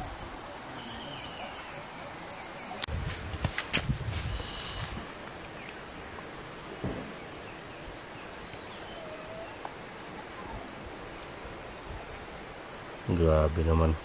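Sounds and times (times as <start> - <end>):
faint chirps: 0.0 - 2.9, 4.2 - 14.0
insects buzzing: 0.0 - 14.0.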